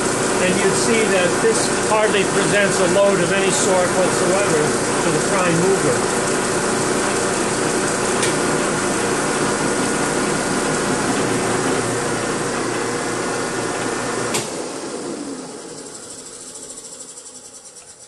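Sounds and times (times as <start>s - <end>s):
generator rig whirring: 0.0s - 18.0s.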